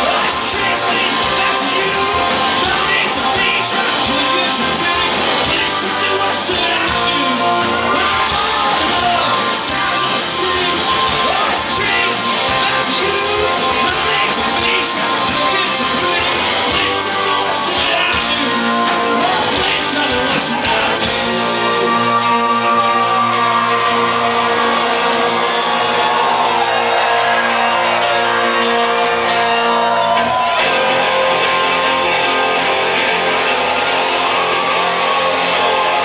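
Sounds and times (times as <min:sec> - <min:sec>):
live rock band playing: 0:00.0 - 0:36.0.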